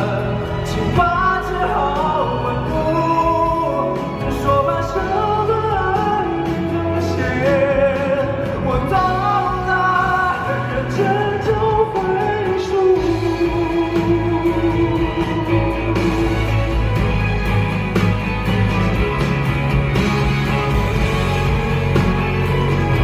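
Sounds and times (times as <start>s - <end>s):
band backing: 0.0s - 23.0s.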